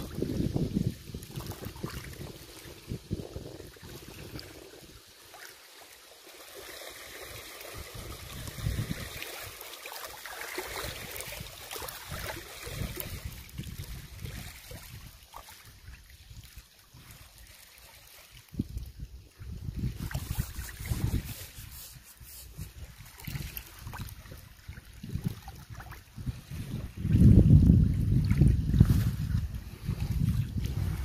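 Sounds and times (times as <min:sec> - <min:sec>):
wind rumbling on microphone: 0:00.0 - 0:05.4, 0:07.0 - 0:31.0
river water lapping: 0:00.0 - 0:31.0.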